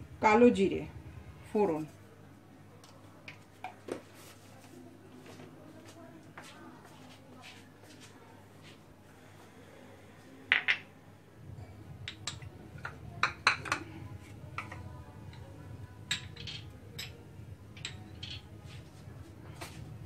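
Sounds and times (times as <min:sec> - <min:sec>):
low steady hum: 0:00.0 - 0:06.3, 0:08.2 - 0:20.0.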